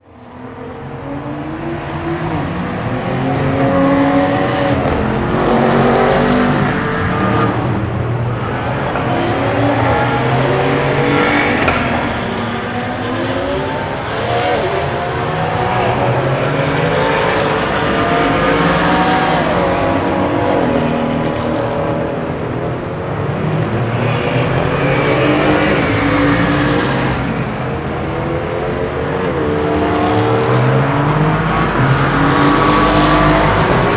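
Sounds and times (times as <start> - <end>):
race cars passing accelerating: 0.0 - 33.9.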